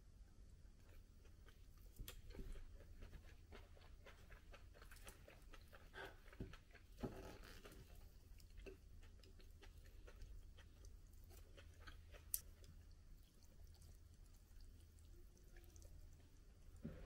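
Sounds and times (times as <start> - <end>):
chewing pancake: 0.8 - 17.0.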